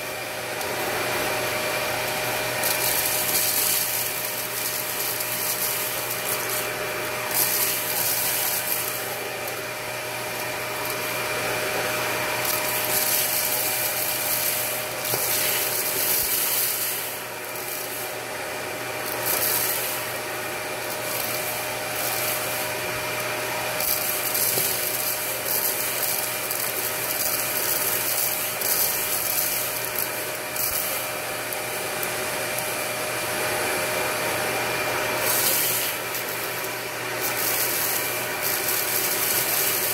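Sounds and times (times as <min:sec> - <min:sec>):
vacuum cleaner running: 0:00.0 - 0:39.9
debris rattling up vacuum wand: 0:00.1 - 0:32.9, 0:34.7 - 0:39.9.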